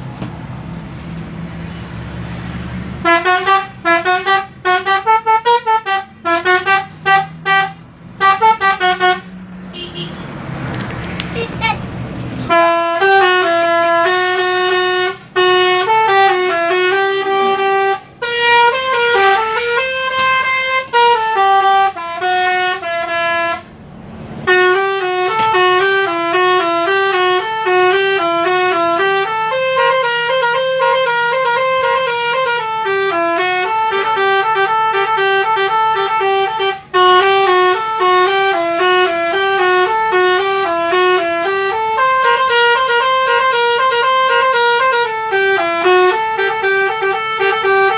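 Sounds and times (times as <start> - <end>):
bus horn playing a melody: 2.9 - 10.3, 12.4 - 23.8, 24.4 - 47.9.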